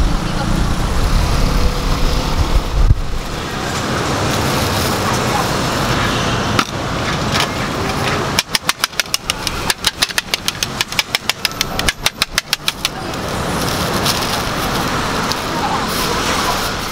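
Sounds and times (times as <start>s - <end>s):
street traffic noise: 0.0s - 16.9s.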